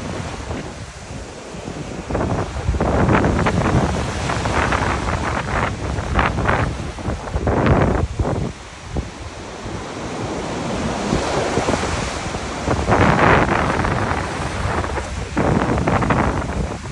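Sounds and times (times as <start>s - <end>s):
sea waves washing on shore: 0.0s - 16.9s
wind buffeting microphone: 0.0s - 16.9s.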